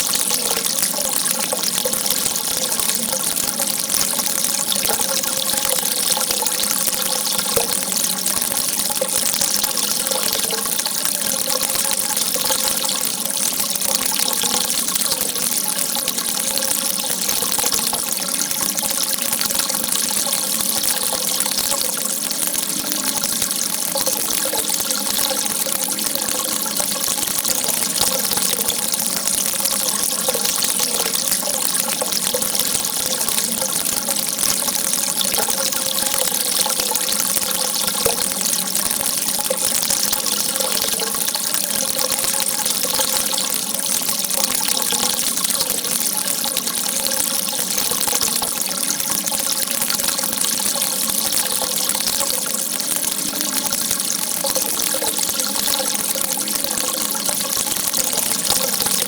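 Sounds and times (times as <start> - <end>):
water gushing: 0.0 - 59.0.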